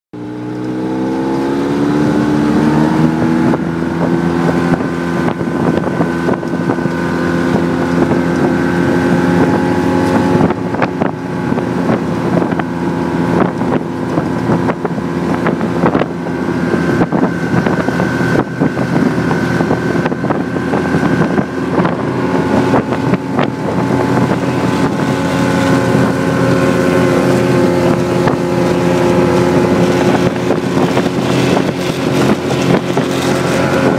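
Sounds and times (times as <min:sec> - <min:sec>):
snowmobile engine running: 0:00.2 - 0:33.9
wind buffeting microphone: 0:00.2 - 0:33.9.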